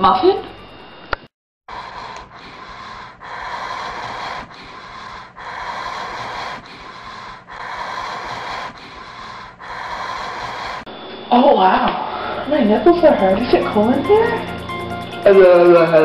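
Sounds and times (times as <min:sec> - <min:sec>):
heavy breathing: 0:01.7 - 0:10.9, 0:12.0 - 0:16.0.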